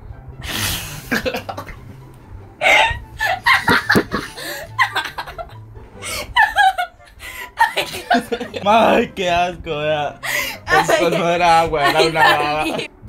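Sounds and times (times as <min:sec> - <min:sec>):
people laughing: 0:00.5 - 0:01.8, 0:02.6 - 0:09.2, 0:10.2 - 0:12.9.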